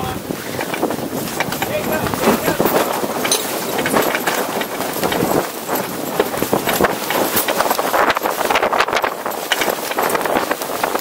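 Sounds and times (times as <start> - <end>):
wind and water rushing: 0.0 - 11.0
small clatters and knocks: 0.5 - 11.0.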